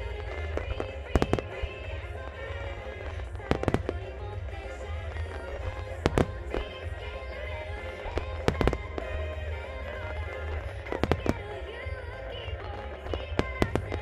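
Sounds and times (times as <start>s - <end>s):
music: 0.0s - 14.0s
firework shells bursting: 0.1s - 11.8s, 13.0s - 14.0s.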